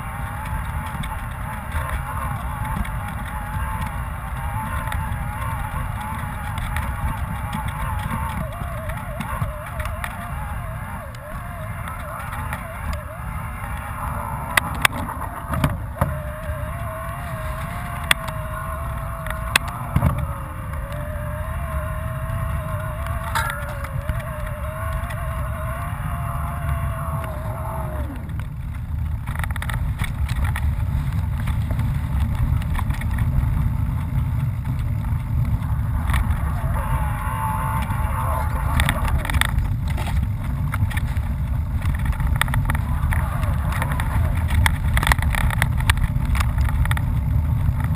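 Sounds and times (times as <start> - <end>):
bike tyre noise on gravel: 0.0 - 47.9
wavering whine: 0.0 - 47.9
wind on microphone: 0.0 - 47.9.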